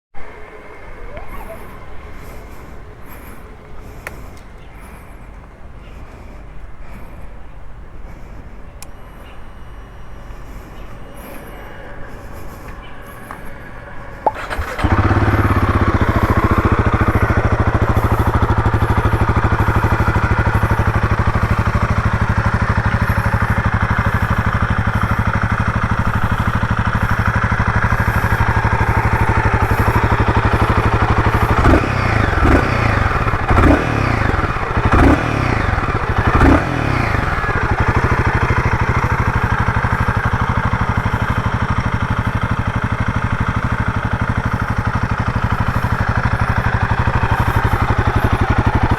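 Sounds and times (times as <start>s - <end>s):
motorcycle engine idling and revving: 0.2s - 48.9s.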